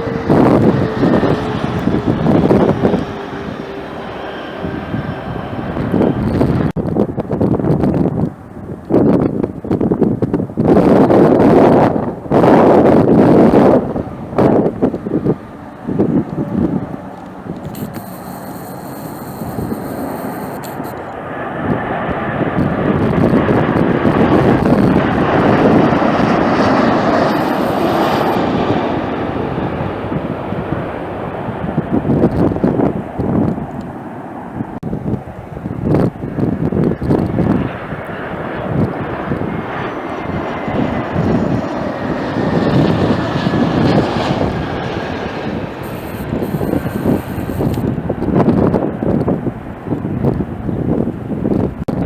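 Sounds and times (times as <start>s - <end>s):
airliner engines passing overhead: 0.0s - 52.0s
wind buffeting microphone: 0.0s - 52.0s.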